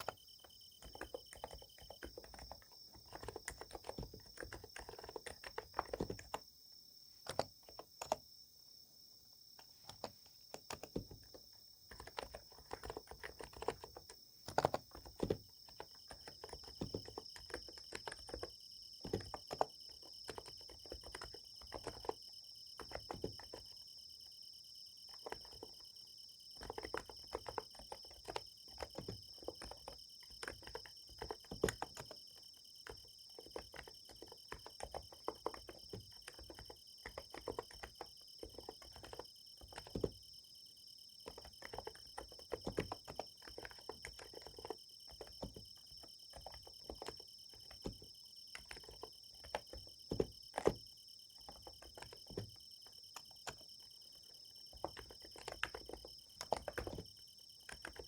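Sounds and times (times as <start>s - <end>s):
soft keyboard typing: 0.0s - 8.4s, 9.4s - 58.0s
crickets chirring: 0.0s - 58.0s.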